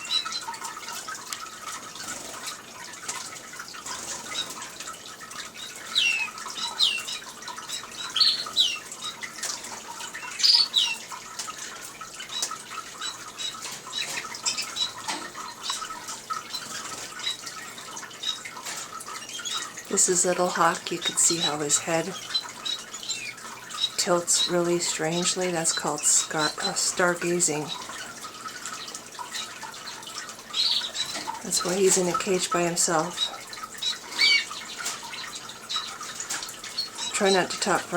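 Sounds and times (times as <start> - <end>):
birds chirping: 0.0 - 37.9
water fountain trickling: 0.0 - 37.9.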